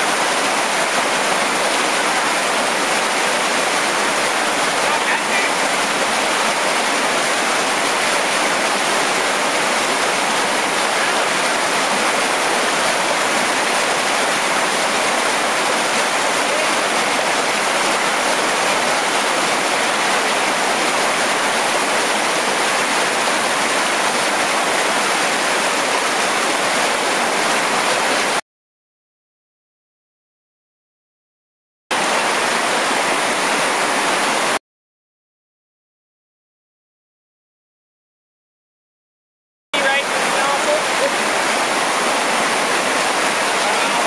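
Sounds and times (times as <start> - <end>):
river water rushing over rocks: 0.0 - 28.4, 32.0 - 34.6, 39.8 - 44.0.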